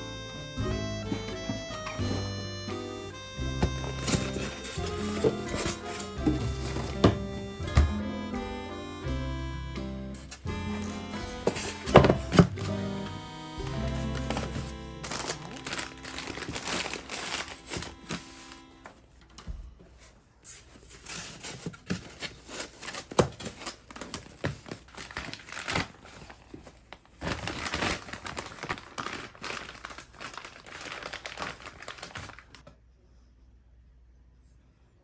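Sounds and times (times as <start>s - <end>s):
crinkling and rustling: 1.0s - 8.0s, 10.2s - 12.9s, 13.9s - 32.8s.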